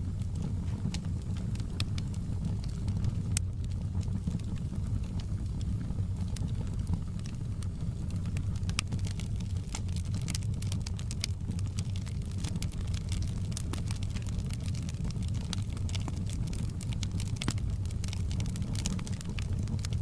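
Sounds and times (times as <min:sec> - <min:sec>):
fire low rumble: 0:00.0 - 0:20.0
wood fire crackling and popping: 0:00.0 - 0:20.0.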